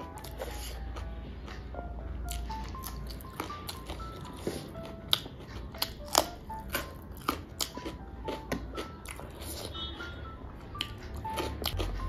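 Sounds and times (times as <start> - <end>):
chewing and crunching food: 0.0 - 1.6, 2.3 - 9.9, 10.8 - 12.0
soft background music: 0.0 - 12.0.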